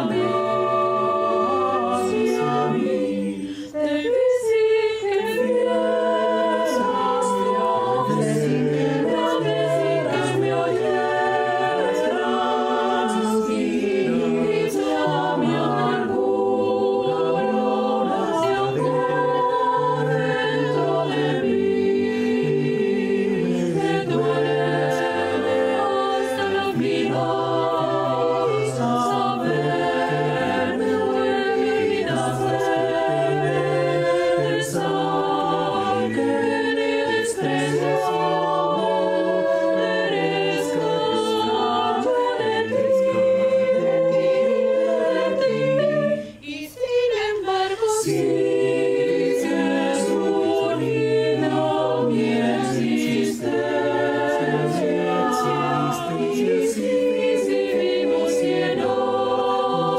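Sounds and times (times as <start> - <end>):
male choir singing chords: 0.0 - 59.9.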